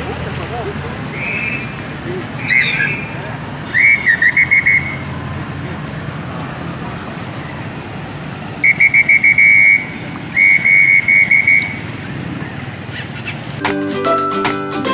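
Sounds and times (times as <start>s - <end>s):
street traffic: 0.0s - 14.9s.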